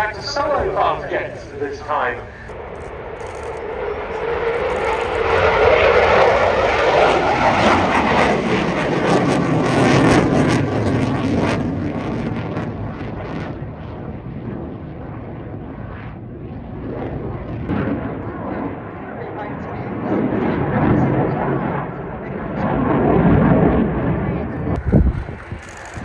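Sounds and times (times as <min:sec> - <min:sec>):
jet roaring overhead: 0:00.0 - 0:26.0.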